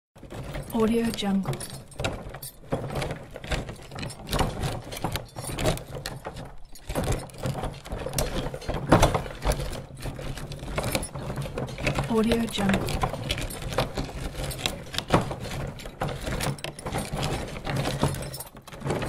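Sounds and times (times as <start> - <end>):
wagon rattling over rocky road: 0.2 - 19.0.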